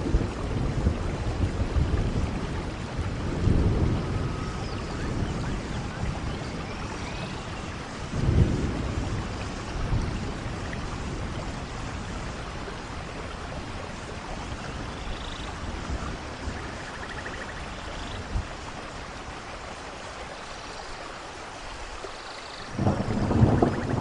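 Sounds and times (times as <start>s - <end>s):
thunder rumble: 0.0s - 18.7s, 22.7s - 24.0s
rain hiss: 0.0s - 24.0s.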